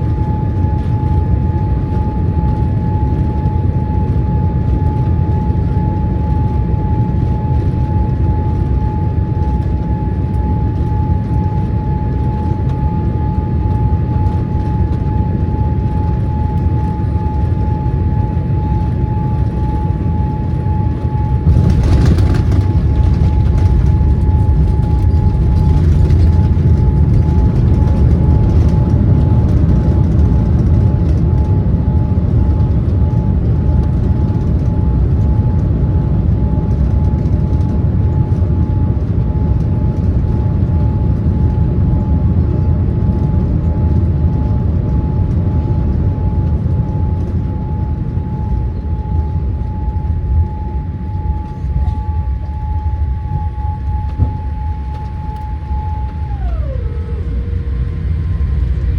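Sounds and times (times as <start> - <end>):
airliner cabin rumble: 0.0 - 58.9
steady high whine: 0.0 - 58.9.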